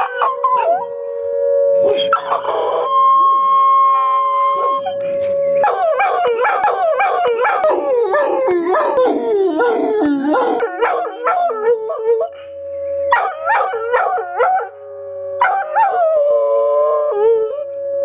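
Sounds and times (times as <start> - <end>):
dog howling: 0.0 - 1.0, 1.8 - 12.5, 13.1 - 14.7, 15.4 - 17.7
warning siren steady tone: 0.0 - 18.0.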